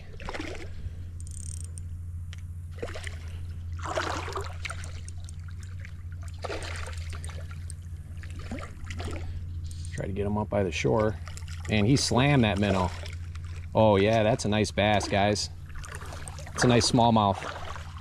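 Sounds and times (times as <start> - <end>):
fish splashing water: 0.0 - 0.8, 2.7 - 9.9, 11.0 - 18.0
steady low rumble: 0.0 - 18.0.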